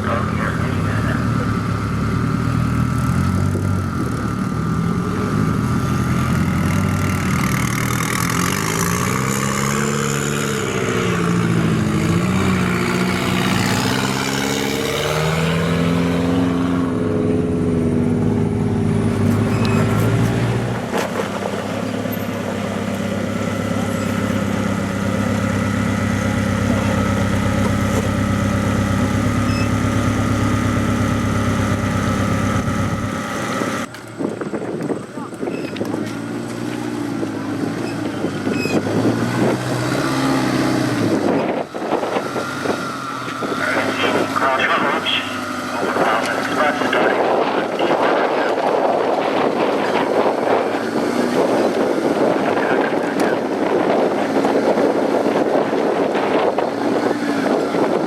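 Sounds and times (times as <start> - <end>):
engine revving and idling: 0.0 - 58.0.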